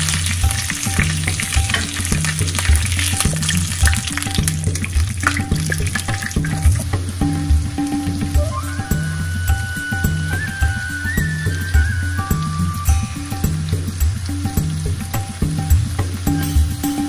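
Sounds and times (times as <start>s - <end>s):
background music with bass line: 0.0s - 17.0s
chicken sizzling in hot oil: 0.0s - 17.0s.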